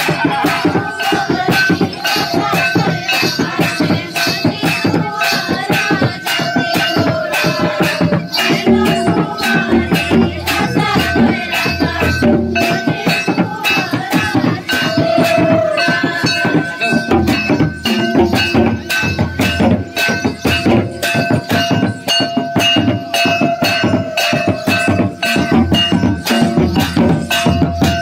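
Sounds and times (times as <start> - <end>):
drums in quick rhythm: 0.0 - 28.0
voices singing: 0.0 - 28.0.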